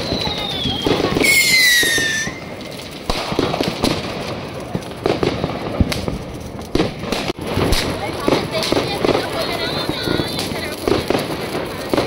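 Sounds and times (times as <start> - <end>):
firecrackers cracking: 0.0 - 12.0.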